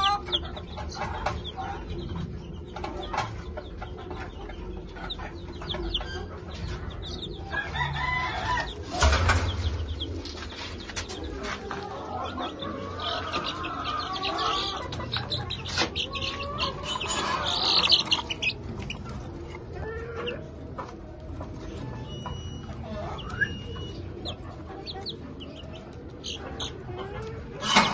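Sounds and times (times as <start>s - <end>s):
chickens clucking: 0.0s - 27.9s
chicks peeping: 0.0s - 27.9s.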